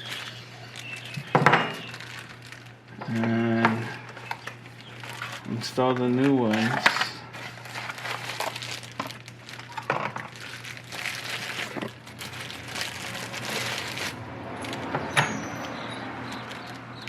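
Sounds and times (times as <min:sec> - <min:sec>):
faint steady hum: 0:00.0 - 0:14.9
rustling and handling noise: 0:00.0 - 0:14.9, 0:16.2 - 0:17.0.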